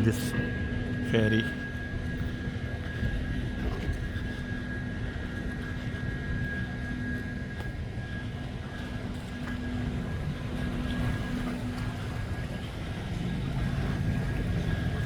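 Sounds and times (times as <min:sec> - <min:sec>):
constant hum: 0:00.0 - 0:15.0
ferry engines droning: 0:00.0 - 0:15.0.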